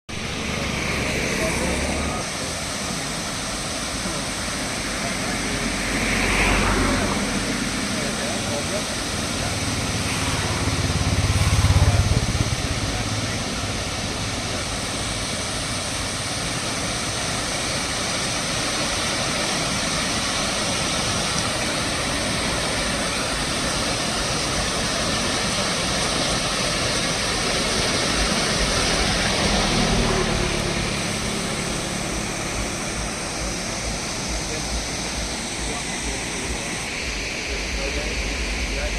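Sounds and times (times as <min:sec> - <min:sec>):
steady rushing noise: 0:00.1 - 0:38.9
vehicle engine rumble: 0:00.1 - 0:38.9.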